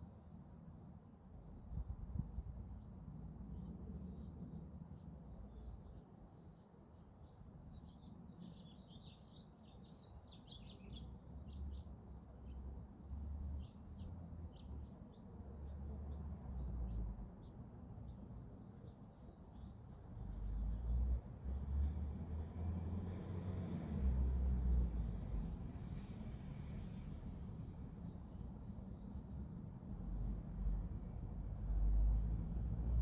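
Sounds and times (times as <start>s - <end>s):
small birds chirping: 2.7s - 22.4s, 25.3s - 33.0s.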